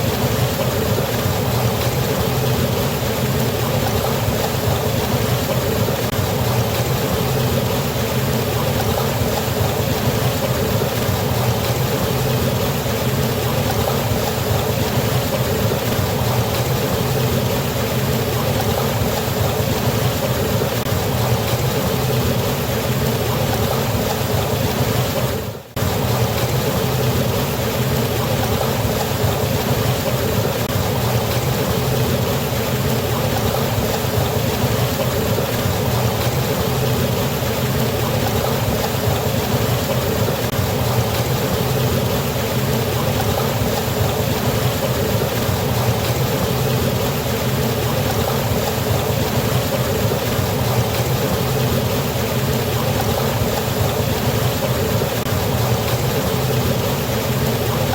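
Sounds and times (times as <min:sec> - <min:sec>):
waterfall roaring: 0:00.0 - 0:57.9.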